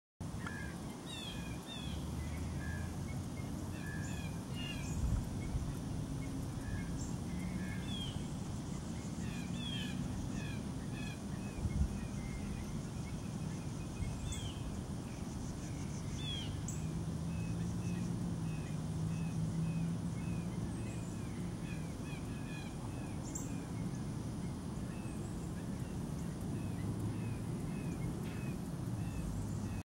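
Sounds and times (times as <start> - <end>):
low background rumble: 0.4 - 29.8.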